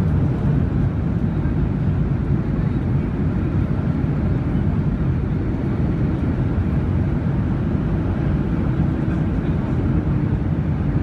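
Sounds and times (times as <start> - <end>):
low rumble of engines and wheels: 0.0 - 11.0.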